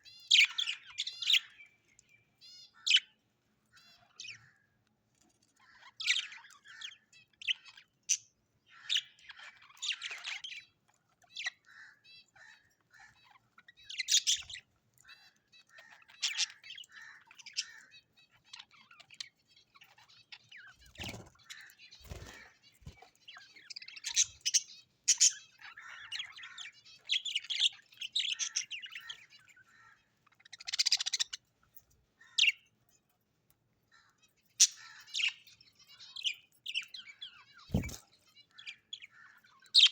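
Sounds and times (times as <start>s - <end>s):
birds chirping: 0.0s - 33.2s, 33.8s - 39.9s.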